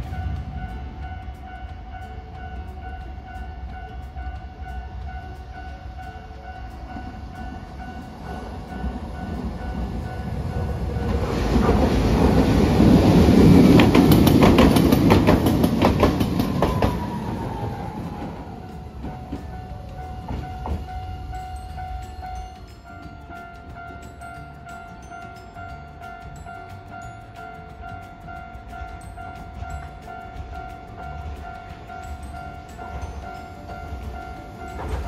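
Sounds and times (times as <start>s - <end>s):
streetcar passing: 0.0s - 35.0s
wheels clicking over rail joints: 0.0s - 35.0s.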